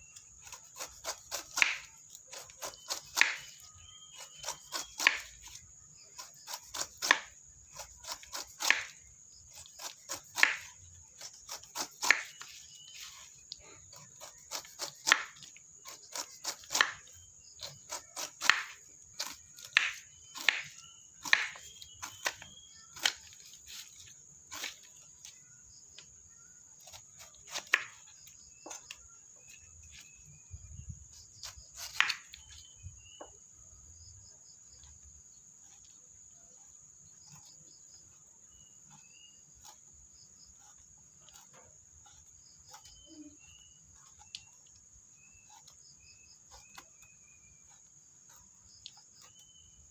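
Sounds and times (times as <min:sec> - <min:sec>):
bird chirps: 0:00.0 - 0:07.1, 0:07.7 - 0:49.9
crickets trilling: 0:00.0 - 0:49.9.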